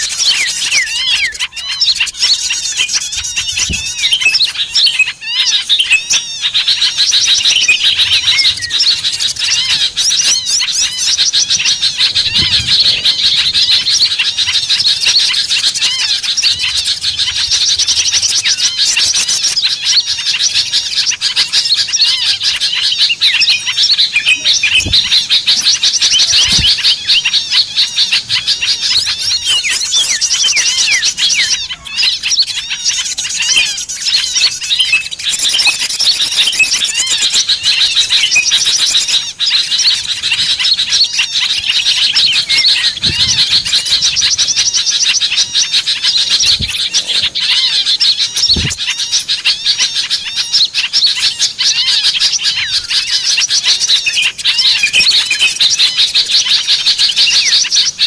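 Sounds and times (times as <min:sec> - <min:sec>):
small songbirds chirping: 0:00.0 - 0:58.0.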